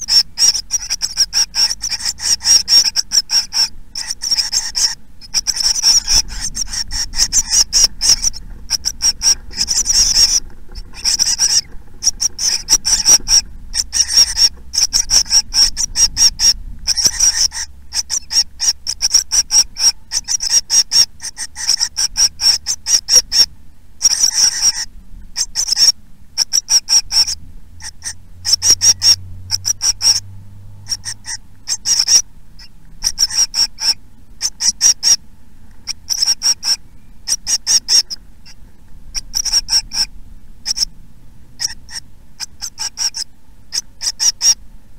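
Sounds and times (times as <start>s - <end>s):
nestlings calling: 0.0s - 44.7s.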